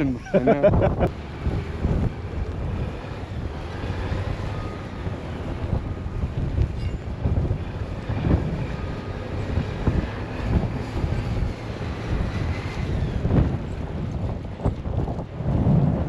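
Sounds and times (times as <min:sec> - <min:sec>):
wind gusting against microphone: 0:00.0 - 0:16.0.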